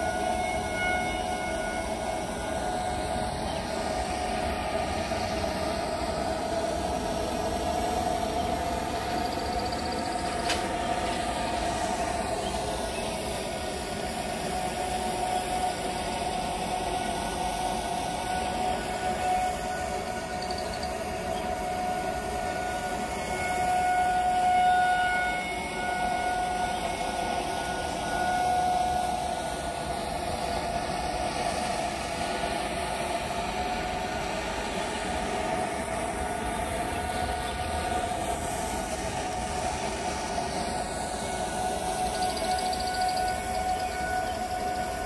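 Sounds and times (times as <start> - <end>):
tornado warning siren: 0.0 - 45.0.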